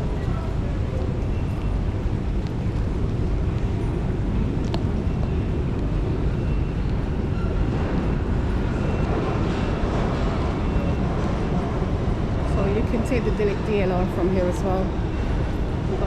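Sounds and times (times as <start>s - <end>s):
railway station rumble: 0.0s - 16.0s.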